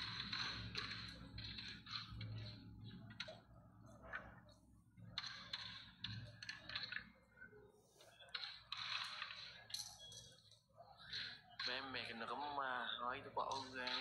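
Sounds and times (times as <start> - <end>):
carrom strikers and coins clicking: 0.0 - 4.4, 5.0 - 7.2, 8.1 - 12.8, 13.4 - 14.0.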